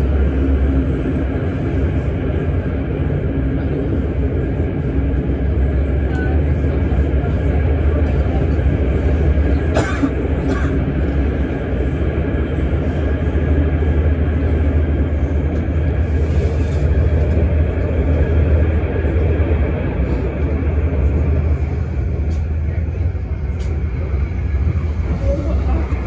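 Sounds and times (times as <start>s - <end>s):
train rumbling through tunnel: 0.0s - 26.0s.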